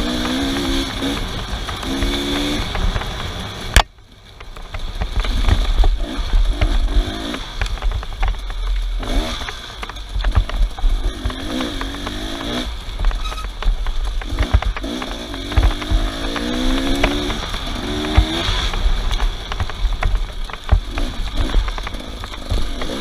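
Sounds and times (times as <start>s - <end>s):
off-road vehicle engine revving: 0.0s - 3.1s, 5.1s - 7.9s, 8.9s - 13.5s, 14.2s - 19.6s, 20.5s - 23.0s.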